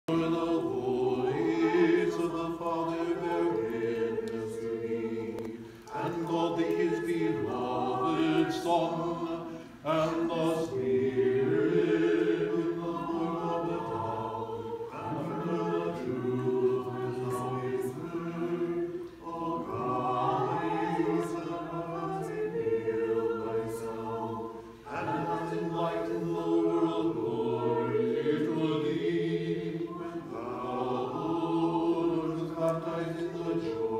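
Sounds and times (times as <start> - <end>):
choir chanting in harmony: 0.1 - 33.9.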